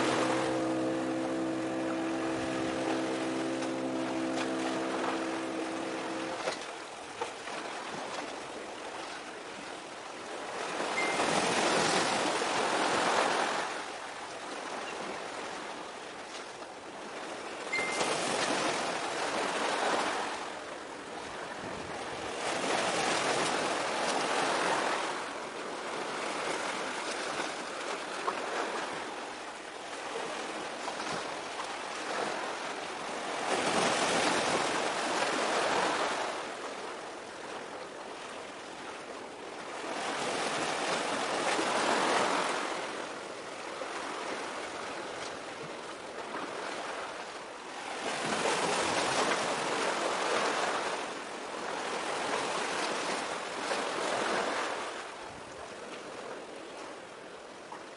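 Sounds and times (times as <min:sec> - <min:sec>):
sea waves washing on shore: 0:00.0 - 0:57.9.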